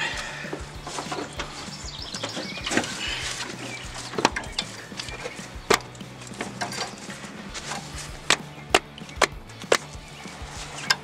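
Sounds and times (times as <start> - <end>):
metallic knocks and clicks: 0.6 - 11.0.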